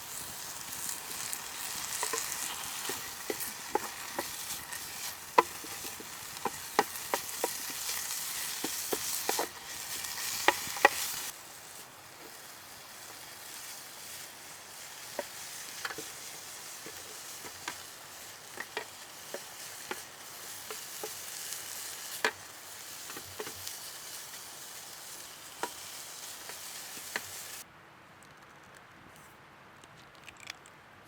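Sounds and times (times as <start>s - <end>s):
campfire pops and crackles: 0.0s - 27.6s
food sizzling in pan: 0.0s - 27.6s.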